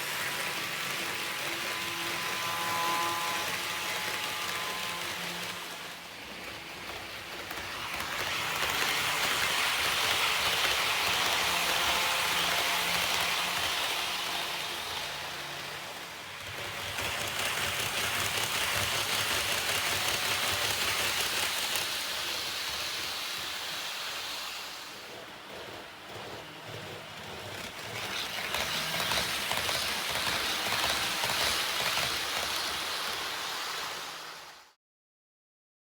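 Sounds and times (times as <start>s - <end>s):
model train motor: 0.0s - 34.7s
model train wheels hissing on rail: 0.0s - 34.8s.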